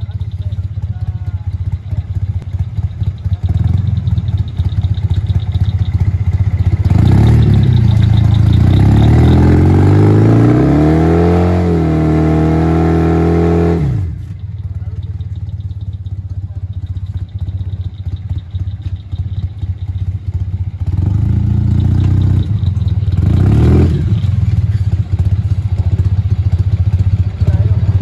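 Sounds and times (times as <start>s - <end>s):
vehicle engine revving: 2.4s - 28.0s.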